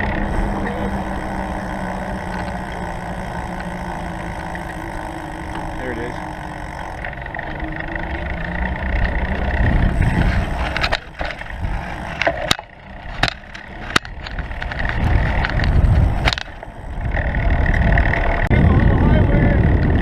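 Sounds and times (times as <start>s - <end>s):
bicycle tyres rumbling: 0.0s - 20.0s
bike rattles and clunks: 0.0s - 20.0s
wind on microphone: 0.0s - 20.0s.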